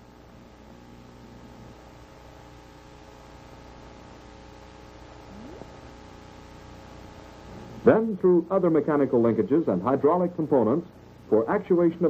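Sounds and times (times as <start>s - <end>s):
faint electrical hum: 0.0s - 12.0s
soundtrack hiss: 0.1s - 12.0s.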